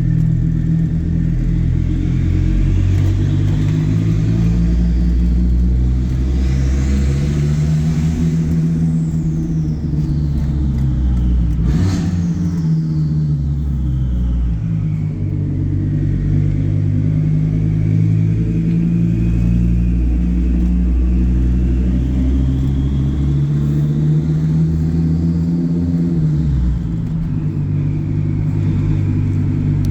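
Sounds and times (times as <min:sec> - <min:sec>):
deep exhaust drone: 0:00.0 - 0:29.9.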